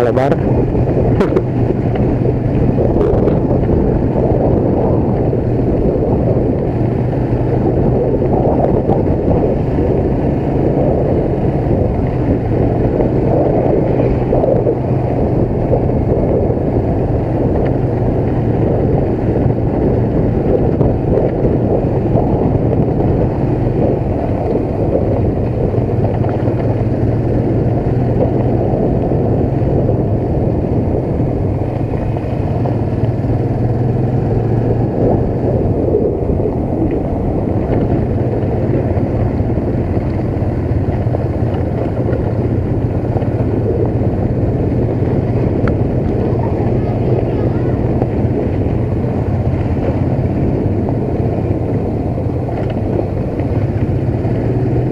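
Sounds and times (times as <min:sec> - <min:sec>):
motorcycle engine drone: 0:00.0 - 0:54.9
wind on microphone: 0:00.0 - 0:54.9.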